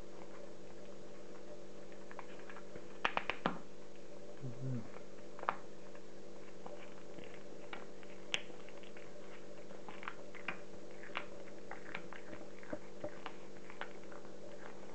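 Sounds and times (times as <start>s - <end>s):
cat chewing raw meat: 0.0s - 14.9s.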